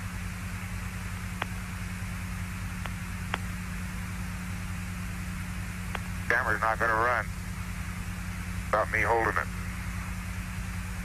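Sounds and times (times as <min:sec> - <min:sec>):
radio hiss and hum: 0:00.0 - 0:11.0.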